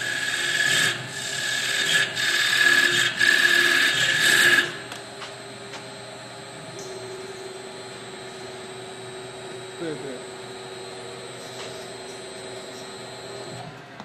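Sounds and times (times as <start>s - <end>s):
wood lathe cutting whine: 0.0s - 5.1s, 6.0s - 13.6s
machine humming: 0.0s - 14.0s.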